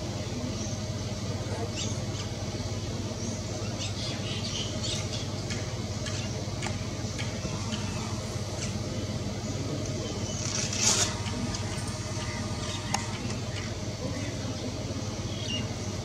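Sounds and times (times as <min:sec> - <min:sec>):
birds chirping squeakily: 0:01.6 - 0:02.5, 0:03.2 - 0:16.0.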